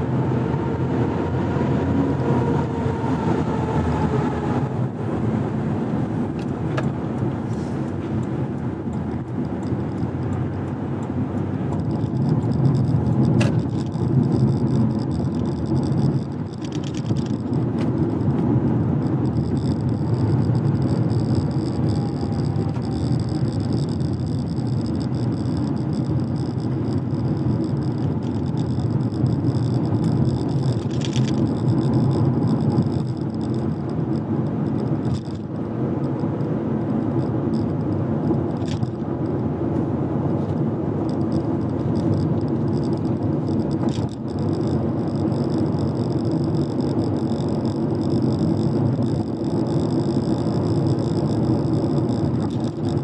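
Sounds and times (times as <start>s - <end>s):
car tyres and engine drone: 0.0s - 53.0s.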